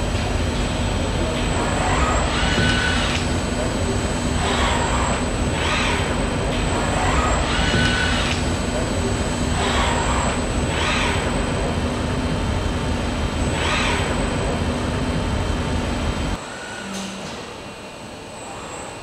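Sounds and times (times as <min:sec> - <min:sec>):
factory machinery hum: 0:00.0 - 0:19.0
high machine whine: 0:00.0 - 0:19.0.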